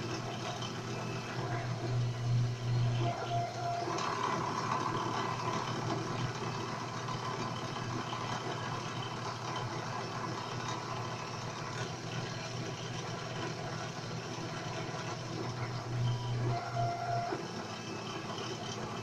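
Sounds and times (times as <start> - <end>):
drill motor humming: 0.0 - 19.0
stepper motors: 0.0 - 19.0.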